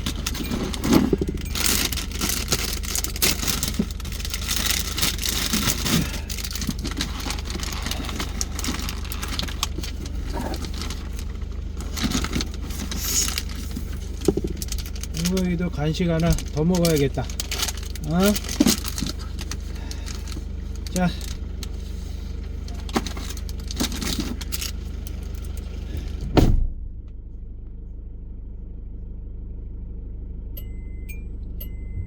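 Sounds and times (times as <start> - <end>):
loose items rattling: 0.0 - 26.2
car cabin road rumble: 0.0 - 29.4.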